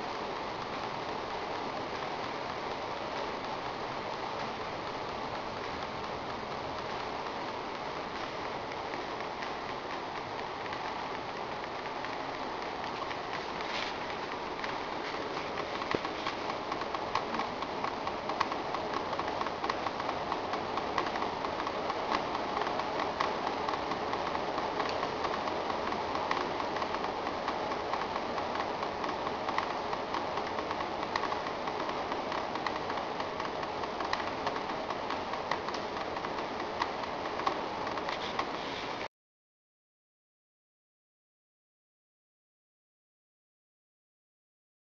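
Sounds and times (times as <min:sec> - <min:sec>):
steady hiss: 0:00.0 - 0:39.1.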